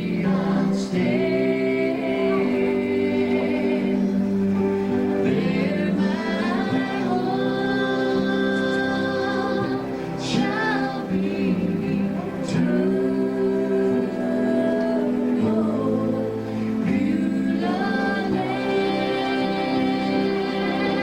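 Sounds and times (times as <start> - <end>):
gospel singing: 0.0 - 21.0
instrumental backing: 0.0 - 21.0.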